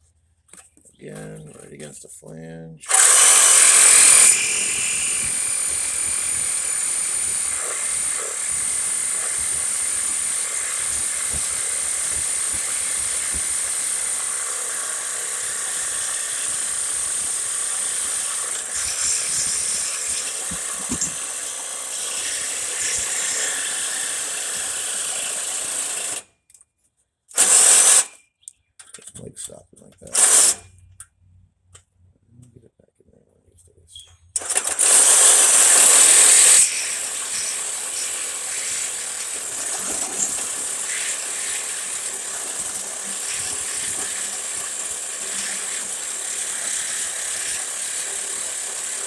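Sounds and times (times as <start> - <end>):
power tool cutting bolt: 2.8 - 26.3, 27.3 - 28.2, 30.1 - 30.6, 34.4 - 49.0.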